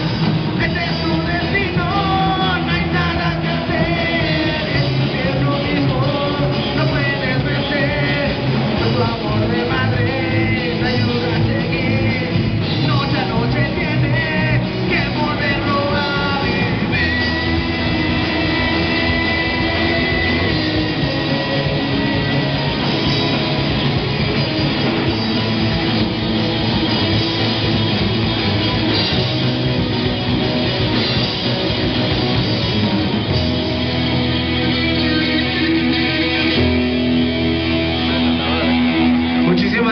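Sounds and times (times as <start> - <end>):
drum kit: 0.0 - 39.9
loud electric guitars: 0.0 - 39.9.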